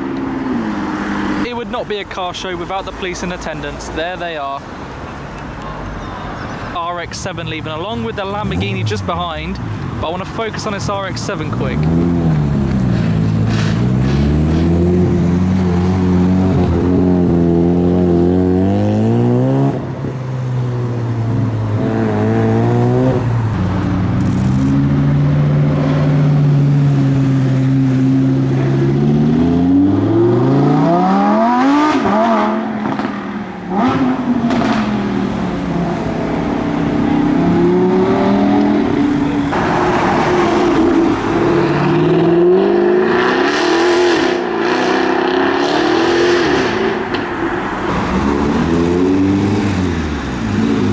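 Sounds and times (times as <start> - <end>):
sports car engines revving: 0.0 - 6.1, 6.9 - 50.9.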